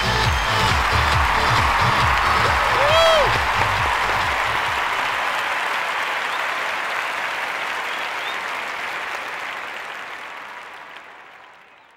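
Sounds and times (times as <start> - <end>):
crowd applauding: 0.0 - 11.9.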